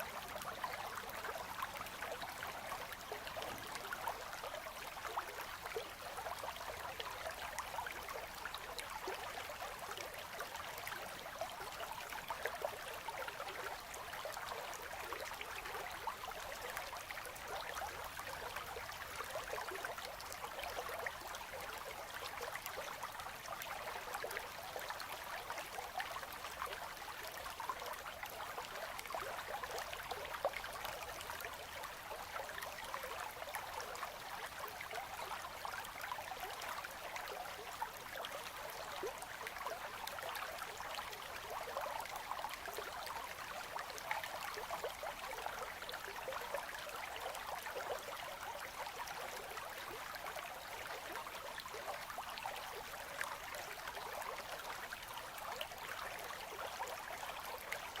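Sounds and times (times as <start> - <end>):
river water babbling: 0.0 - 58.0.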